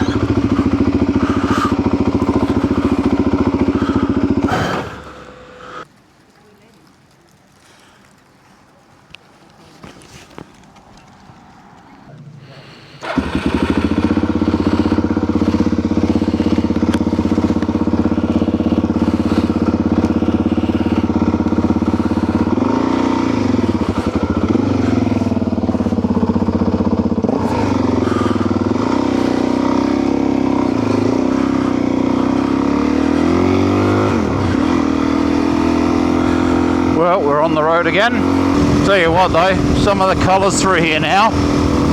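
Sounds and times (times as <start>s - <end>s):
motorcycle engine: 0.0s - 5.9s, 10.9s - 41.9s.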